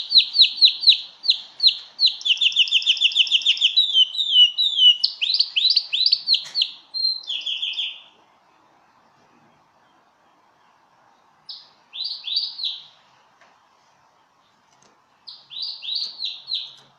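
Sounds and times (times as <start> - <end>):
canary singing trills: 0.0 - 13.4, 14.0 - 16.9.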